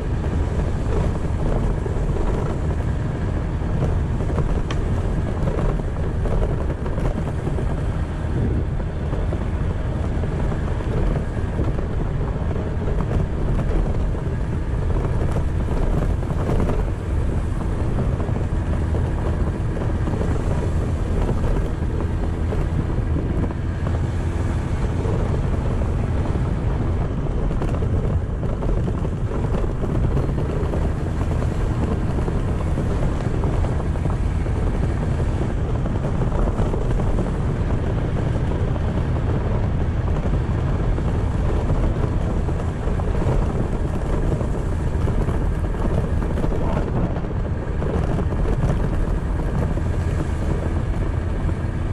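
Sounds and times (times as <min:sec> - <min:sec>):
scooter engine running: 0:00.0 - 0:51.9
tyres on gravel road: 0:00.0 - 0:51.9
wind noise on microphone: 0:00.0 - 0:51.9.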